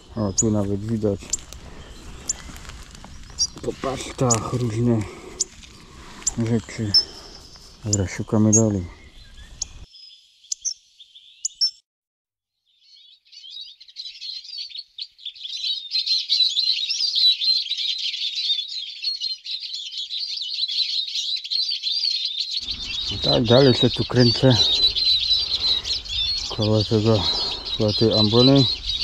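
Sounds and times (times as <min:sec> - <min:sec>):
birds chirping and twittering: 0:00.0 - 0:11.8, 0:12.6 - 0:29.0.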